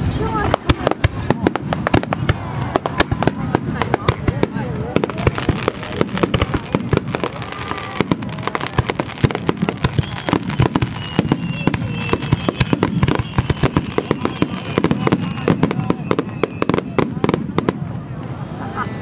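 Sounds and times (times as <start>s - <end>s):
fireworks bangs and crackles: 0.0s - 18.6s
high fireworks whistle: 0.1s - 17.8s.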